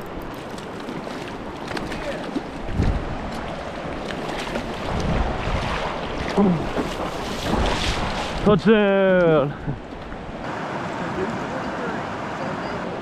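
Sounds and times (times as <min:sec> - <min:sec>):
wind buffeting microphone: 0:00.0 - 0:10.5
river water rushing: 0:00.0 - 0:13.0.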